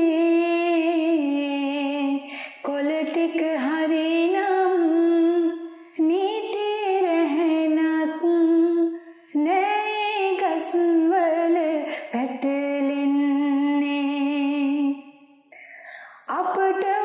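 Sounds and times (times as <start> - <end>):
wordless female vocal music: 0.0 - 17.0.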